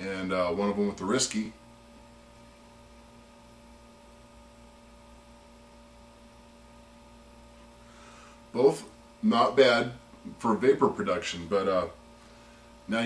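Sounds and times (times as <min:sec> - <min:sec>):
faint electrical mains hum: 0:00.0 - 0:13.0.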